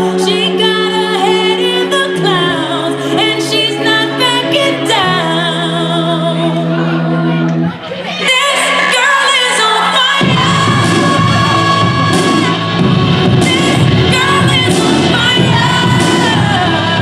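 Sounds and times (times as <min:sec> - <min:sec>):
pop music with singing: 0:00.0 - 0:17.0.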